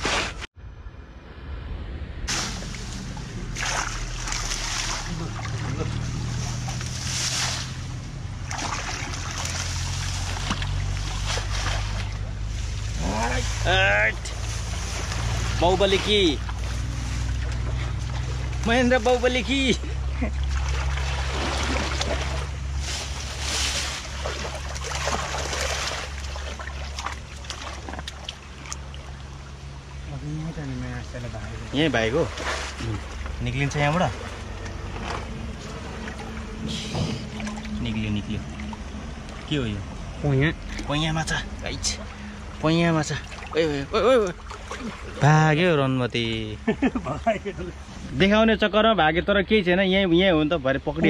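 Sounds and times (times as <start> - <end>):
steady low rumble: 0.0 - 50.0
water sloshing and splashing: 2.2 - 48.3.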